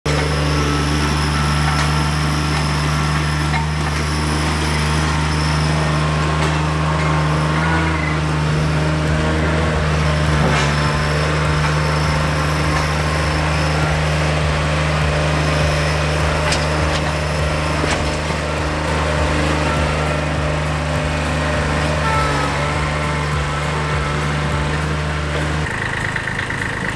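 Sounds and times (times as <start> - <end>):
small tractor engine running: 0.0 - 26.9.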